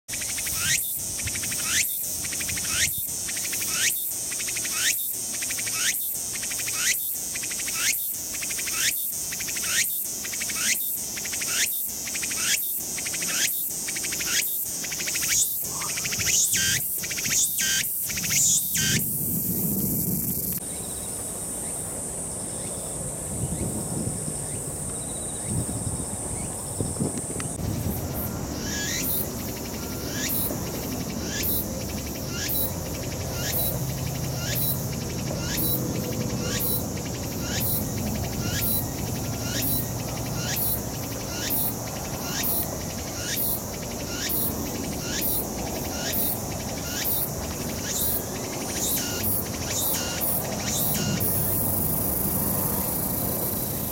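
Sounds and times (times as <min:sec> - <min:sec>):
cicada singing: 0:00.1 - 0:53.9.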